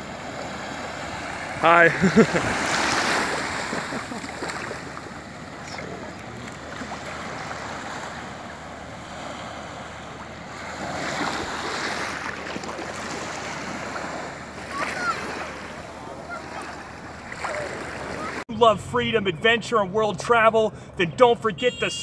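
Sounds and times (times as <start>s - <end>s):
small waves lapping on sand: 0.0s - 18.5s.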